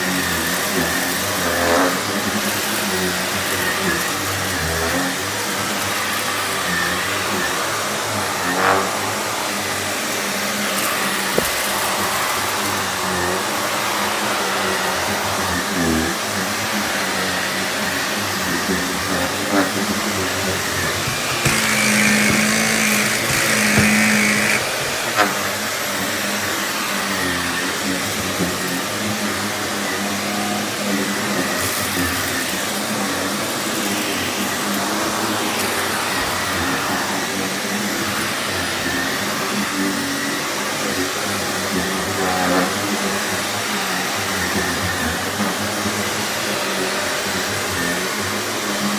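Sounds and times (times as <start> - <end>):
upright vacuum cleaner running: 0.0 - 48.9.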